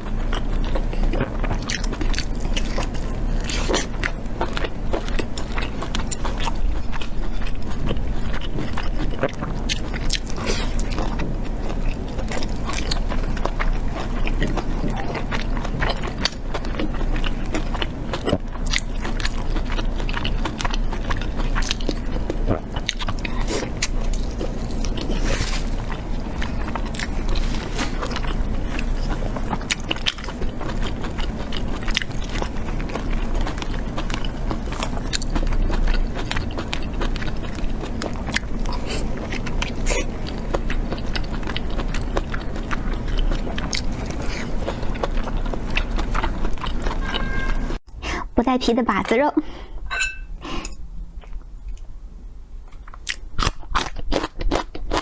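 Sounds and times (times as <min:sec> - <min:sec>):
chewing and biting meat: 0:00.0 - 0:47.6, 0:52.7 - 0:55.0.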